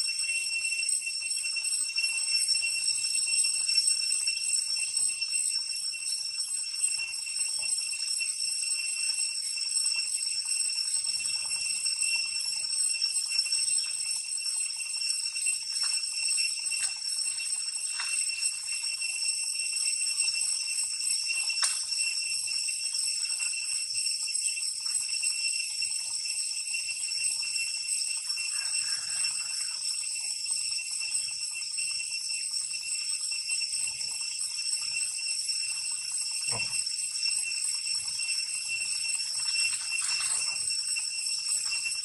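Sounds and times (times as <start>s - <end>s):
shrill insect chorus: 0.0s - 42.0s.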